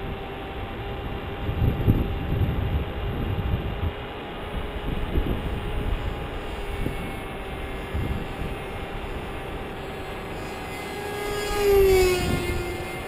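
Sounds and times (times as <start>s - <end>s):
model plane motor whining: 0.0s - 13.0s
wind rumbling on microphone: 0.0s - 13.0s.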